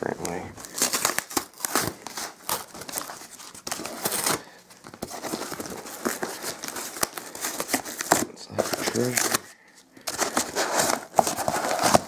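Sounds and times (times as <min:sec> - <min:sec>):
packing paper rustling: 0:00.0 - 0:12.0
cardboard tearing: 0:00.6 - 0:12.0.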